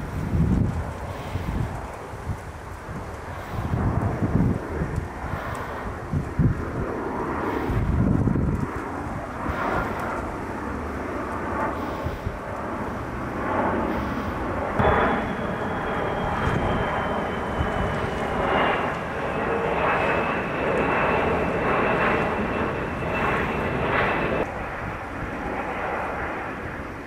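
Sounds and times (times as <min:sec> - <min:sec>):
high jet fan whine: 0:00.0 - 0:27.0
jet airliner passing overhead: 0:00.0 - 0:27.0.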